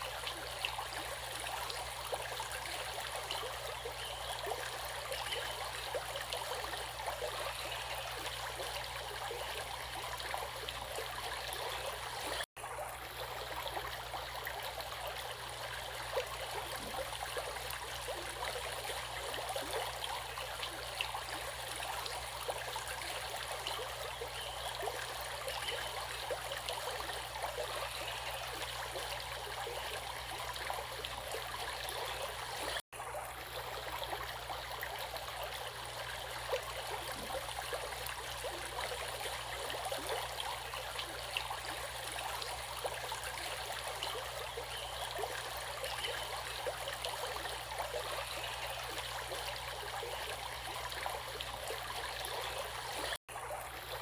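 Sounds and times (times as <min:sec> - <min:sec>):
stream water burbling: 0:00.0 - 0:54.0.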